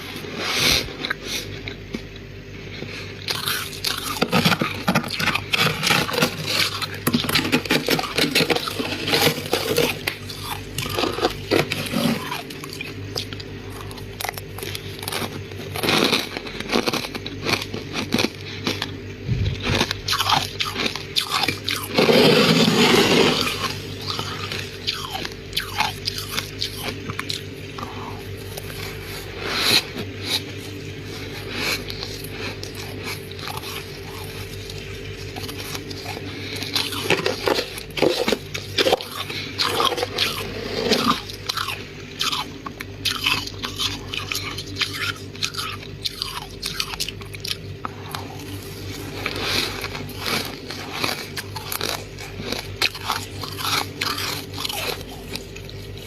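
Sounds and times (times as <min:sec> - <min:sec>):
frost being chewed: 0:00.0 - 0:56.0
steady low hum: 0:00.0 - 0:56.0.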